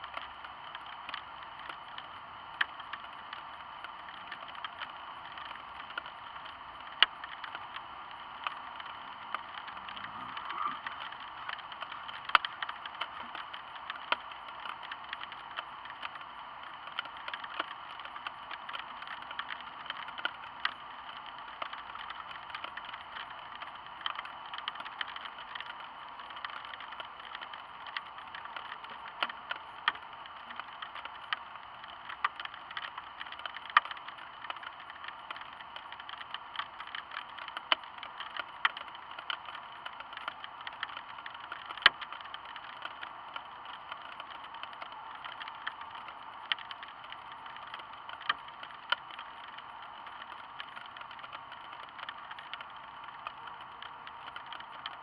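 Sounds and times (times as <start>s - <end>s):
light rain hiss: 0.0s - 55.0s
raindrops ticking: 0.0s - 55.0s.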